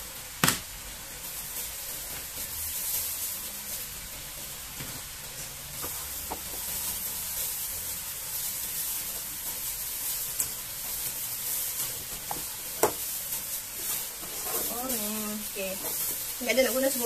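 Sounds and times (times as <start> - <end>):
wok sizzling: 0.0 - 17.0.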